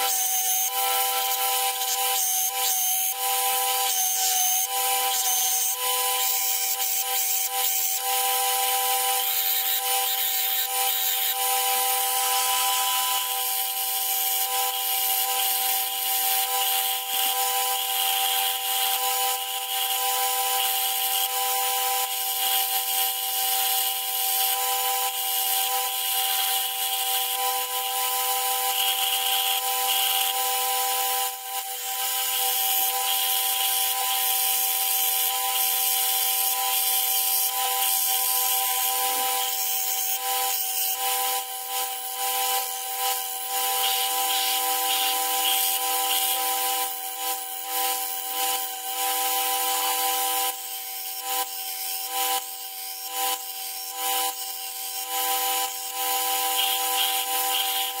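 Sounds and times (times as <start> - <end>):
electric grinder grinding steel: 0.0 - 58.0.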